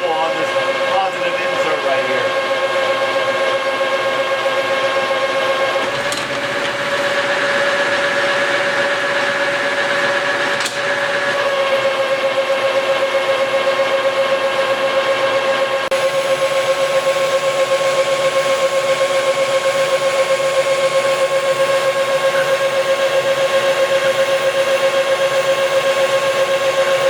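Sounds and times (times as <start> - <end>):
metal lathe whine: 0.0 - 27.0.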